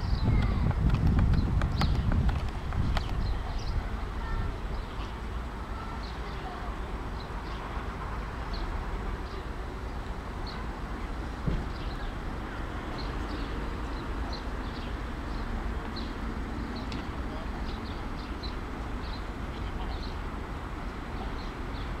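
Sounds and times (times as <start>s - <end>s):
low outdoor rumble: 0.0s - 22.0s
small birds chirping: 1.3s - 7.8s, 8.4s - 10.8s, 11.6s - 22.0s.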